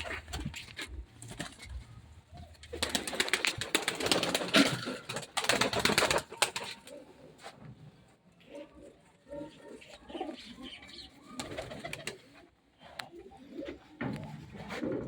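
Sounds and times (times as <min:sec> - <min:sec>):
pigeons cooing: 0:02.4 - 0:15.0.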